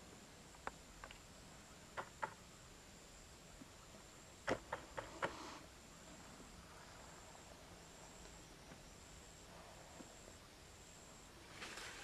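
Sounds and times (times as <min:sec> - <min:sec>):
faint high insect trill: 0:00.0 - 0:12.0.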